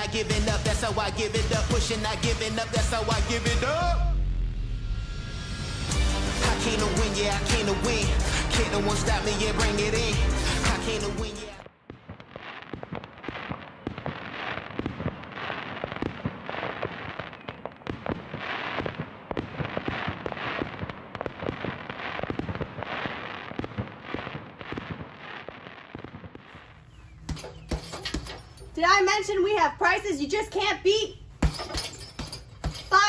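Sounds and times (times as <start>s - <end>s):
fireworks crackling and banging: 0.0s - 4.0s, 5.8s - 33.0s.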